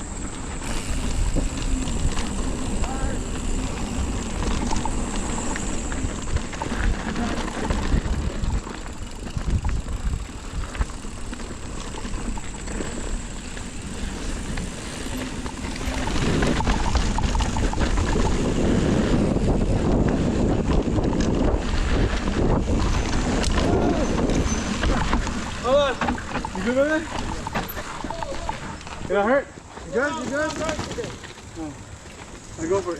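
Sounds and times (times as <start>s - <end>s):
wind buffeting microphone: 0.0s - 29.2s
mountain bike rattling on rocks: 0.0s - 32.9s.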